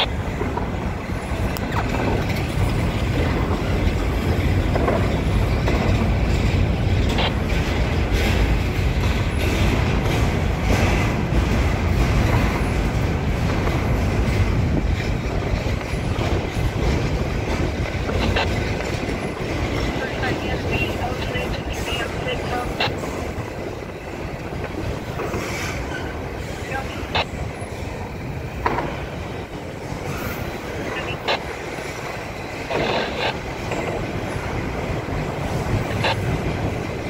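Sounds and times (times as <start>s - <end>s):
sharp clacks of train wheels: 0.0s - 37.0s
steel wheels rumbling on rail: 0.0s - 37.0s.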